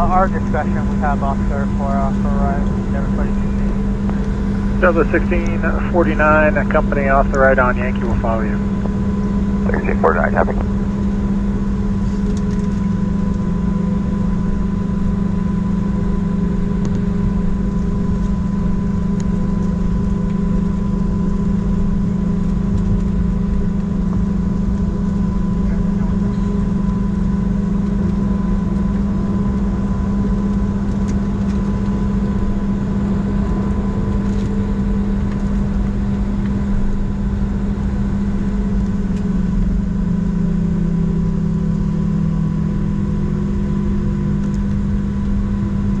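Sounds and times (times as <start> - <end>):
airplane cabin drone: 0.0 - 46.0
thin constant whine: 0.0 - 46.0.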